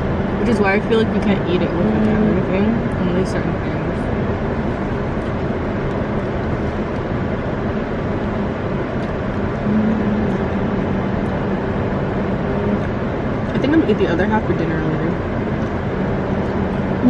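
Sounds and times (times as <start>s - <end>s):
car engine idling: 0.0s - 17.0s
faint low hum: 0.0s - 17.0s.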